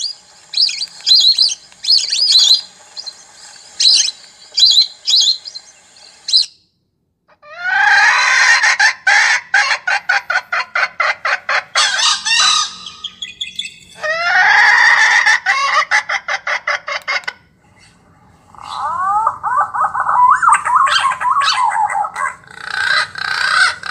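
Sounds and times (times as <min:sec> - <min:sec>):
recorded bird call through speaker: 0:00.0 - 0:06.7, 0:11.2 - 0:23.9.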